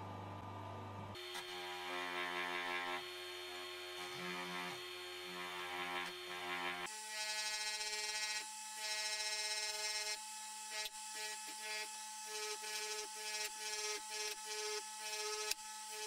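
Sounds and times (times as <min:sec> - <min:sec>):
bench grinder humming: 0:01.2 - 0:16.0.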